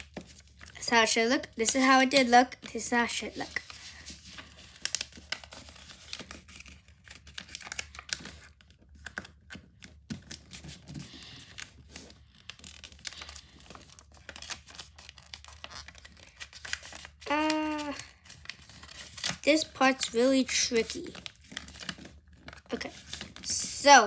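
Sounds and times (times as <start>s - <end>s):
paper being folded and crinkling: 0.0s - 24.0s.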